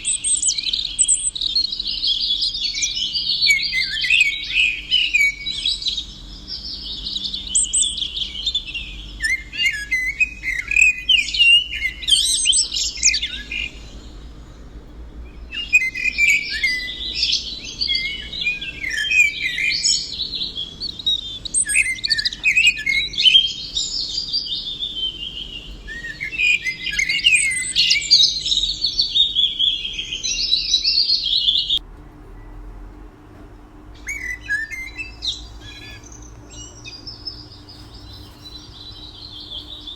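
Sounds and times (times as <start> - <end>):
songbird warbling and trilling: 0.0 - 31.8, 34.0 - 39.9.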